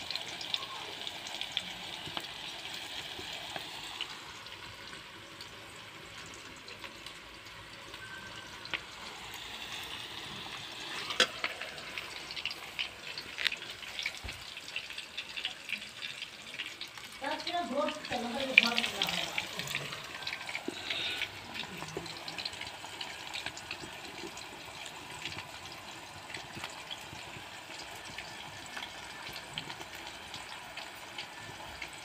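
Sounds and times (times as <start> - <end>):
onions sizzling in oil: 0.0 - 32.0.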